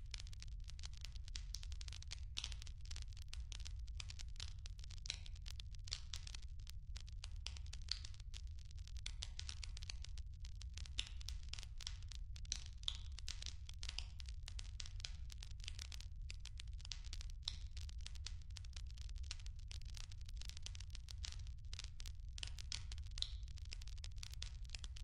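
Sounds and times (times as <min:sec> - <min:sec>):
firewood crackling and popping: 0:00.0 - 0:25.0
low fire rumble: 0:00.0 - 0:25.0.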